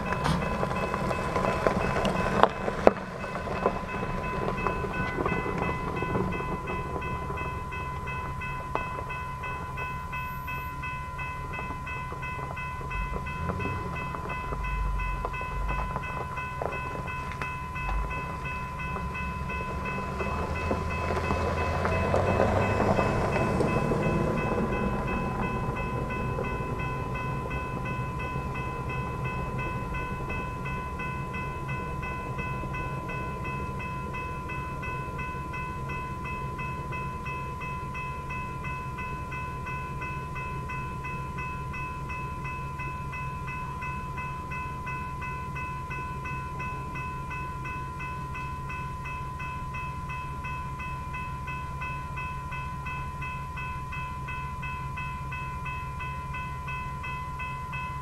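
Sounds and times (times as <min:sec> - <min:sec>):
crossing warning bell: 0:00.0 - 0:58.0
freight train rumbling: 0:00.0 - 0:58.0.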